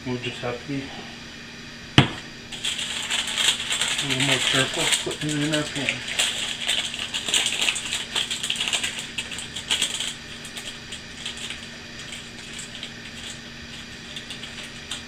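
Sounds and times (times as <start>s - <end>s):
parchment paper crinkling: 2.5s - 15.0s.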